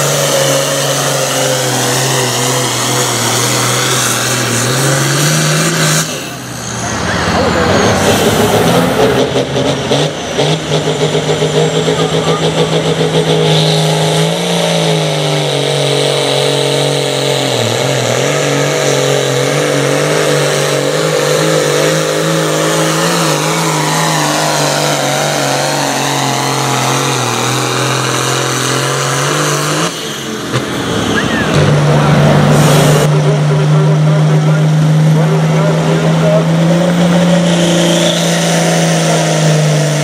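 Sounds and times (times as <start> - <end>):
tractor engine at full throttle: 0.0 - 40.0.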